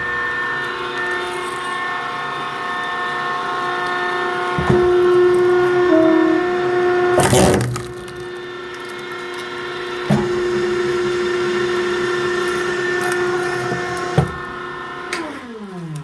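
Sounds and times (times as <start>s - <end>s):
machine motor humming: 1.9s - 15.4s.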